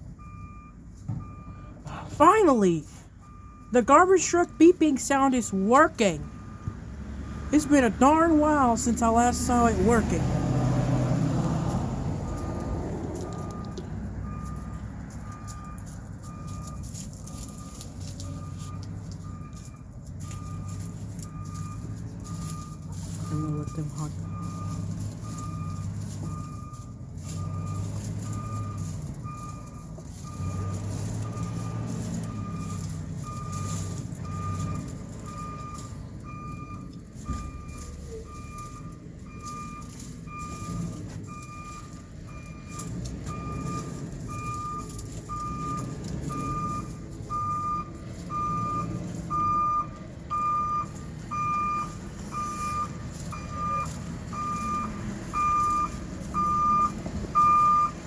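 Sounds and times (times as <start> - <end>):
truck backup alarm beeping: 0.0 - 58.0
truck engine running: 0.0 - 58.0.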